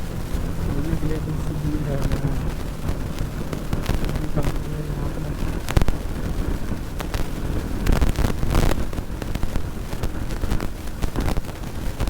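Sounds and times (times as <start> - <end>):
motorcycle engine running: 0.0 - 12.0
sharp cracks: 0.0 - 12.0
wind buffeting microphone: 0.0 - 12.0.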